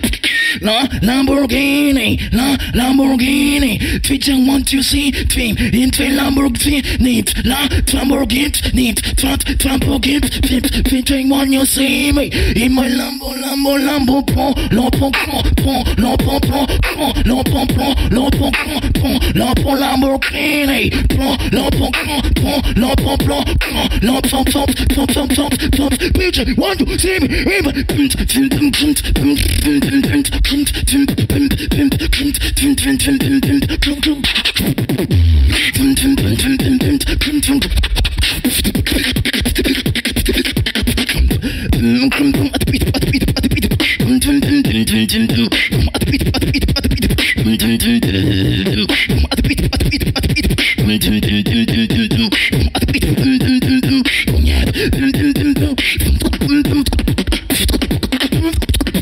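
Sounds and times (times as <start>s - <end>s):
beatboxing trap beat: 0.0s - 59.0s
pitched vocal line: 0.0s - 59.0s.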